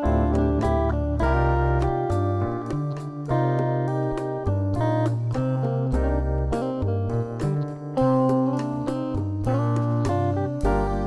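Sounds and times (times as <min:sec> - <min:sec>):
bass notes: 0:00.0 - 0:11.0
plucked string instrument melody: 0:00.0 - 0:11.0.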